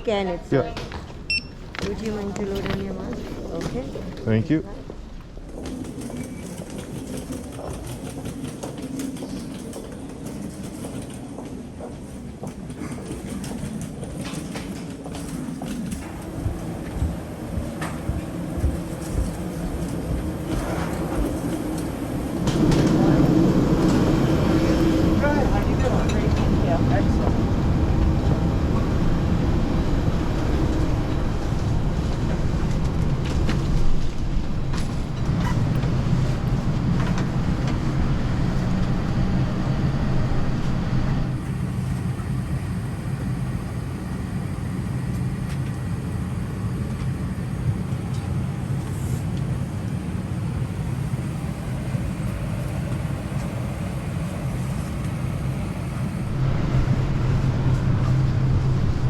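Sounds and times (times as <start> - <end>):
aircraft ventilation hum: 0.0 - 59.0.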